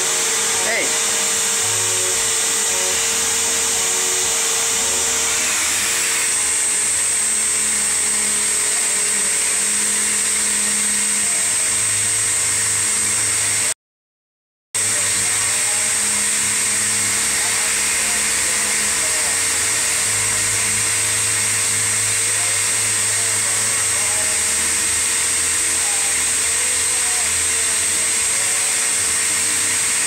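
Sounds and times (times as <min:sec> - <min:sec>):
vacuum cleaner whining: 0:00.0 - 0:13.7, 0:14.8 - 0:30.0.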